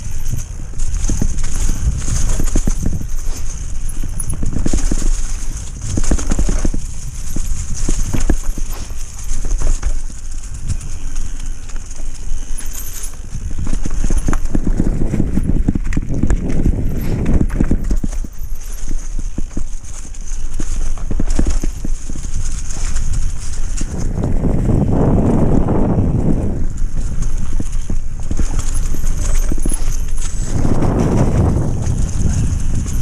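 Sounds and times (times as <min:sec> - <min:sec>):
bike rattling and knocking: 0:00.0 - 0:33.0
tyres rolling through dry leaves: 0:00.0 - 0:33.0
wind rumble on microphone: 0:00.0 - 0:33.0.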